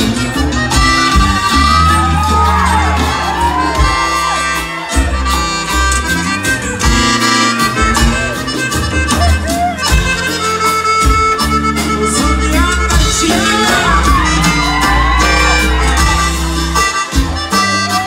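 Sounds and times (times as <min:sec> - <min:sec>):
bass line: 0:00.0 - 0:18.0
button accordion melody: 0:00.0 - 0:18.0
guitar: 0:00.0 - 0:18.0.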